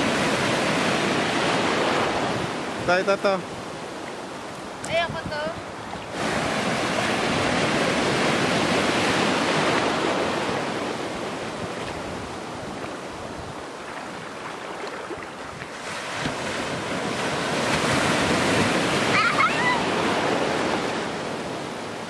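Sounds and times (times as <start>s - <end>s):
ocean waves washing in: 0.0s - 22.0s.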